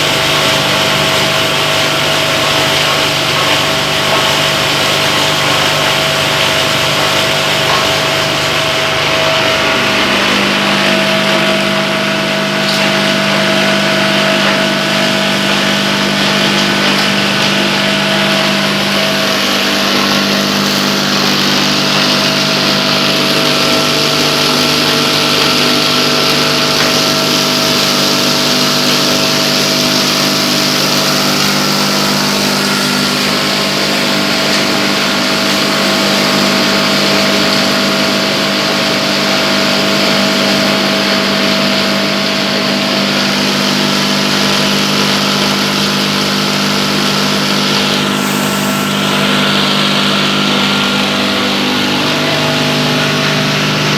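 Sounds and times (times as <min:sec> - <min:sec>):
chopper-grinder machine hum: 0:00.0 - 0:53.9.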